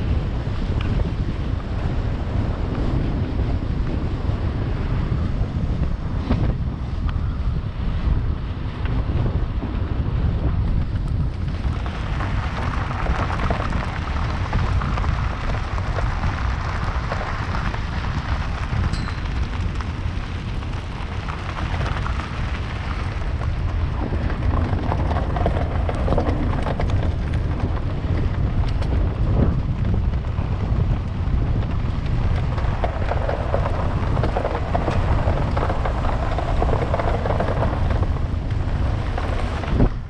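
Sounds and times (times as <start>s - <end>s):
van road and wind rumble: 0.0s - 40.0s.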